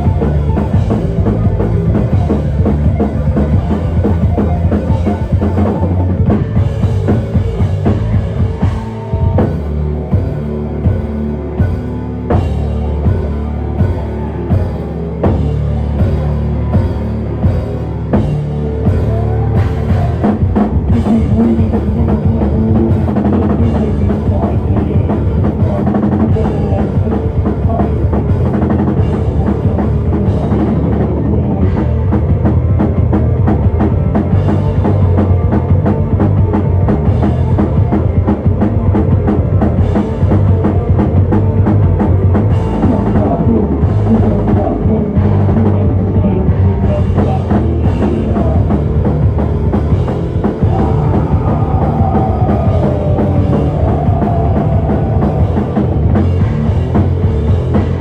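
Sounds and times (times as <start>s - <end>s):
fast drum kit: 0.0s - 58.0s
live heavy rock band playing: 0.0s - 58.0s.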